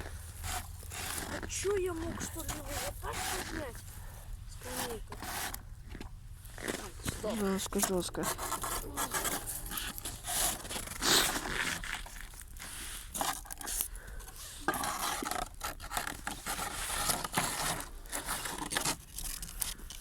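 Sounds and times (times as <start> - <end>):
objects scraping and knocking: 0.0 - 4.0, 4.6 - 20.0.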